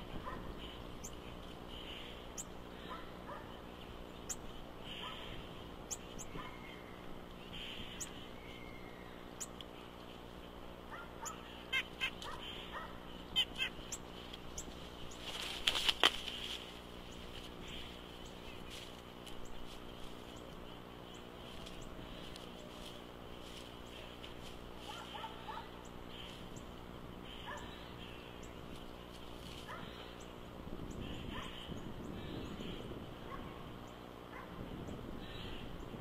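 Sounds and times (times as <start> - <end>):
nuthatches calling nasal notes: 0.0 - 36.0.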